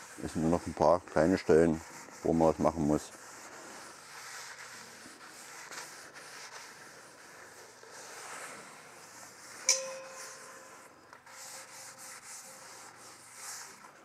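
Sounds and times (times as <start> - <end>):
paper towel scrubbing pot: 0.0 - 14.0.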